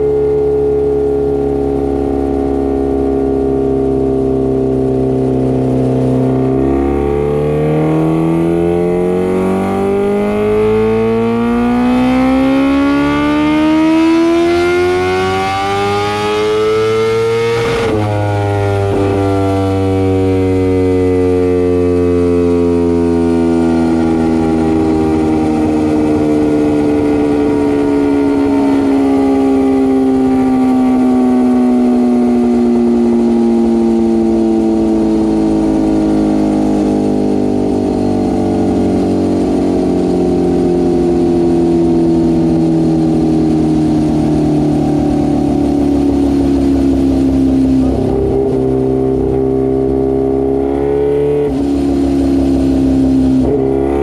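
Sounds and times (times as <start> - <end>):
motorcycle engine revving high: 0.0 - 54.0.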